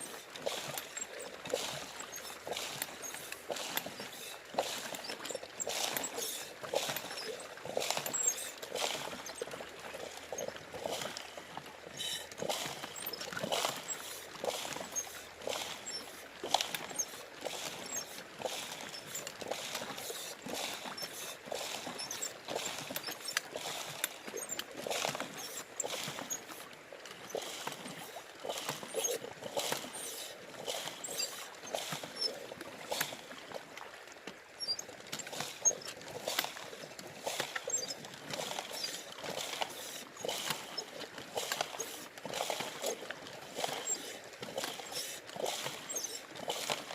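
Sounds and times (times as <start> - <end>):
gravel rattling in water: 0.0 - 46.9.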